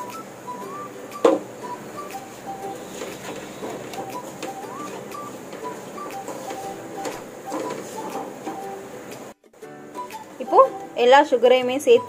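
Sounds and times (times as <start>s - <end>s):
plucked background tune: 0.0s - 12.0s.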